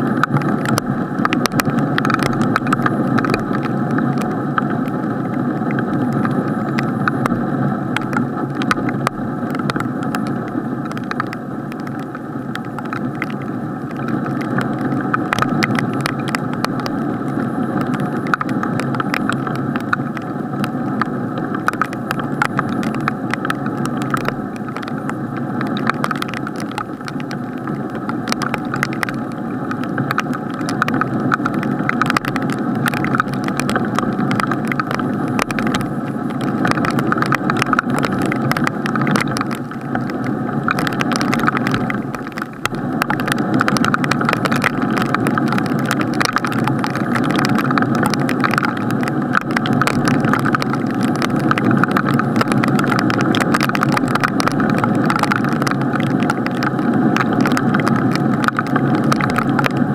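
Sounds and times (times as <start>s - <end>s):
muffled rain rush: 0.0s - 59.9s
raindrops ticking on case: 0.0s - 59.9s.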